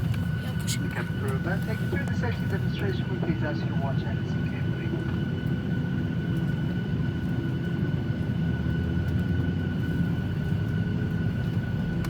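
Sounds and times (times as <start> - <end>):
low cabin rumble: 0.0 - 12.0.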